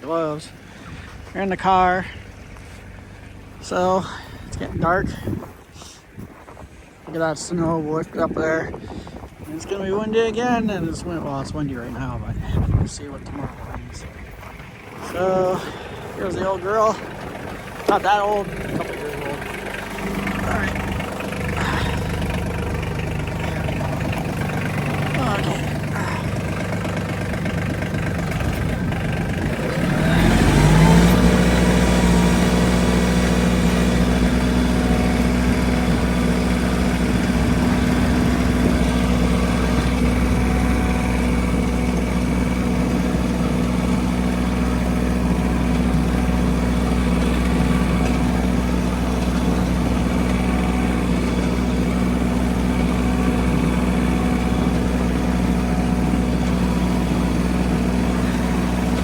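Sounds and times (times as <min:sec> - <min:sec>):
tractor engine revving: 0:00.0 - 0:59.0.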